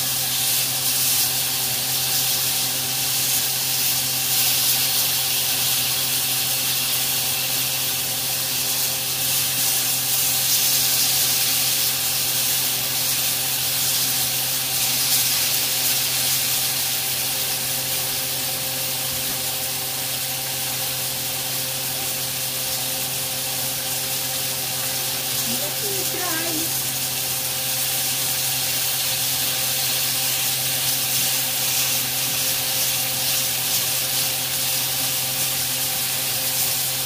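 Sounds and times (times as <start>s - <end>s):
steak sizzling in grill pan: 0.0s - 37.0s.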